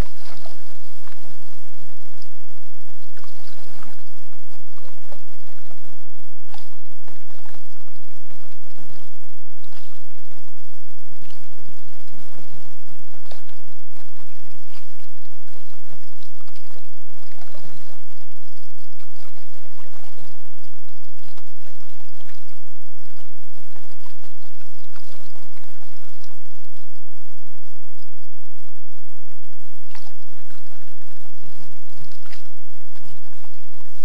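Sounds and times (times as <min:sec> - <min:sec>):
paddle dipping in water: 0:00.0 - 0:28.3, 0:29.5 - 0:34.0.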